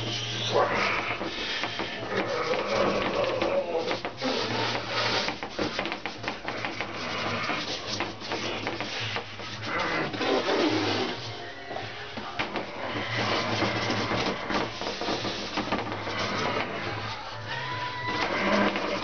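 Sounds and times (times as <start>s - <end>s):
charcoal scratching on paper: 0.0s - 19.0s
hand rubbing paper: 0.0s - 19.0s.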